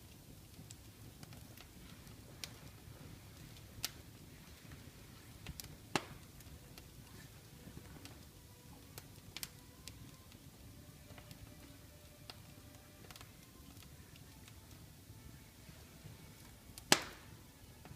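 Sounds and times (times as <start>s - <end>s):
wood fire crackling and popping: 0.0s - 17.9s.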